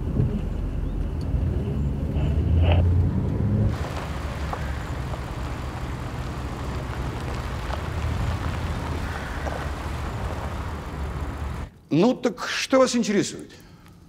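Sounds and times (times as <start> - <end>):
car engine humming: 0.0 - 11.8
road noise: 0.0 - 11.8.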